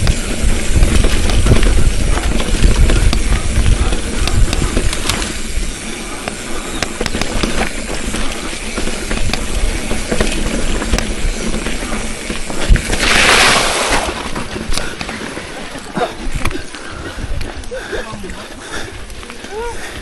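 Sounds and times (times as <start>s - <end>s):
sharp clicks and rattles: 0.0s - 13.2s, 14.0s - 16.8s
bicycle rolling over rough trail: 0.0s - 20.0s
wind buffeting microphone: 0.0s - 20.0s.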